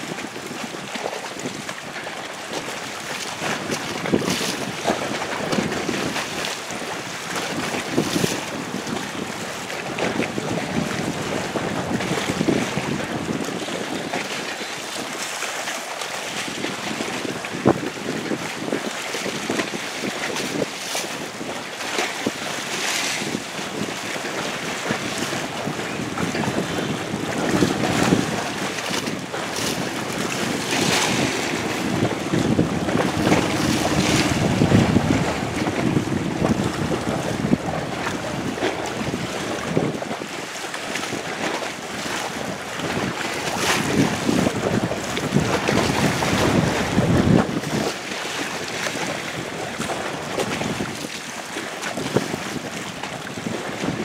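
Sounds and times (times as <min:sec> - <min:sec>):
water splashing against boat: 0:00.0 - 0:54.0
wind buffeting microphone: 0:00.0 - 0:54.0.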